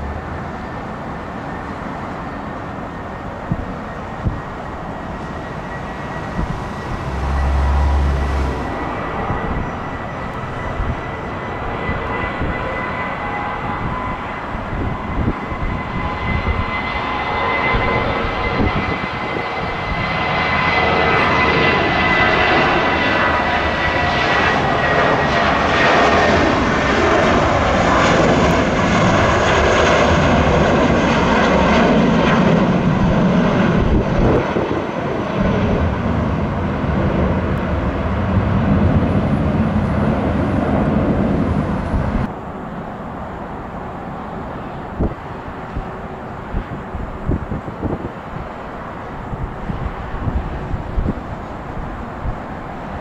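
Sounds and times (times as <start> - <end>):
jet taking off and passing: 0.0 - 53.0.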